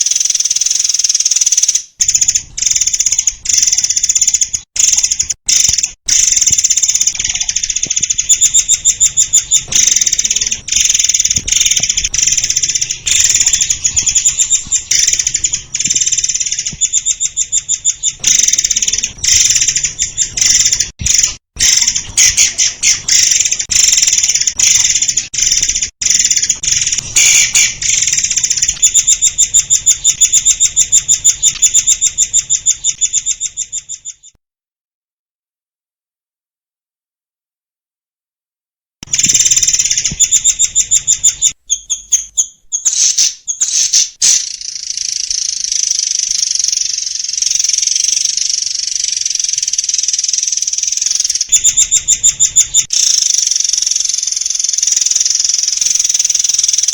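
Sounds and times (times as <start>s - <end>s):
songbird singing trills: 0.0s - 34.4s, 39.2s - 56.9s.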